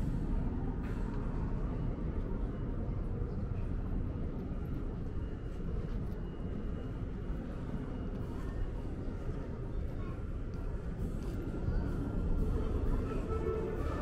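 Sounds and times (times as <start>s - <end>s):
low outdoor ambient rumble: 0.0s - 14.0s.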